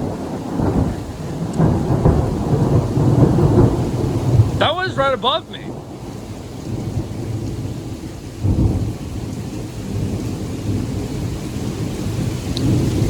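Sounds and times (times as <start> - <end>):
steady rain: 0.0 - 13.0
thunder rumbling: 0.0 - 13.0.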